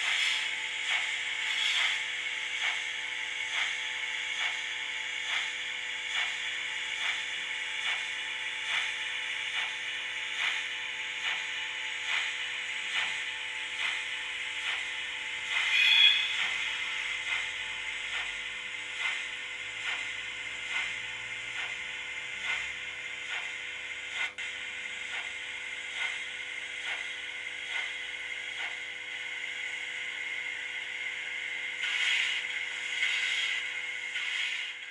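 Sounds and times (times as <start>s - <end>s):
model railway mechanism running: 0.0s - 34.9s.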